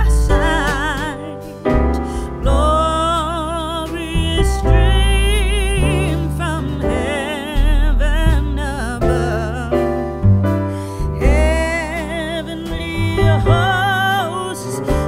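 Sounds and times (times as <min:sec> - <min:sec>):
vibrato melody over bass: 0:00.0 - 0:15.0.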